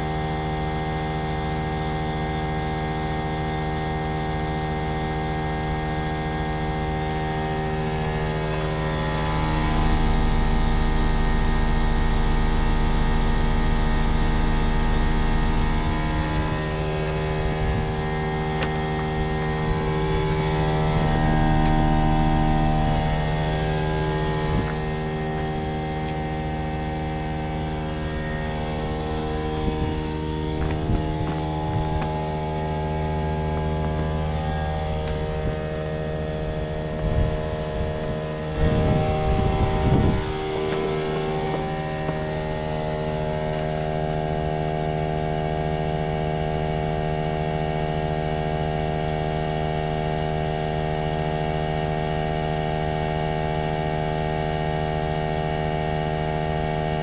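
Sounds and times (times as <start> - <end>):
heat pump humming drone: 0.0 - 57.0.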